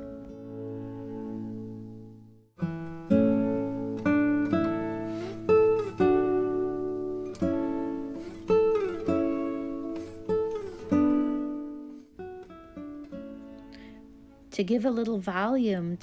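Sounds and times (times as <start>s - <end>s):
plucked string instrument chords: 0.0s - 14.5s.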